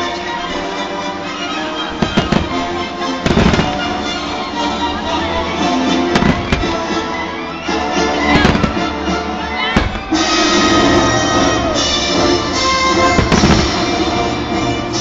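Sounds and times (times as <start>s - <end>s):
fireworks bangs: 0.0s - 15.0s
music: 0.0s - 15.0s.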